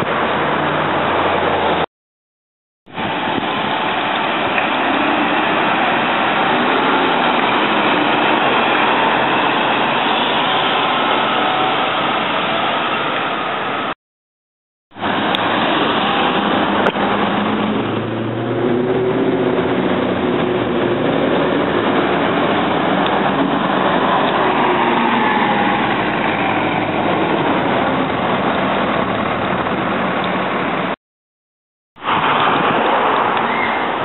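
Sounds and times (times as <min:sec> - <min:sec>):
bus diesel engine accelerating: 0:00.0 - 0:01.9, 0:03.0 - 0:14.0, 0:15.0 - 0:31.0, 0:32.0 - 0:34.0
street traffic: 0:00.0 - 0:01.9, 0:02.9 - 0:14.0, 0:14.9 - 0:31.0, 0:32.0 - 0:34.0.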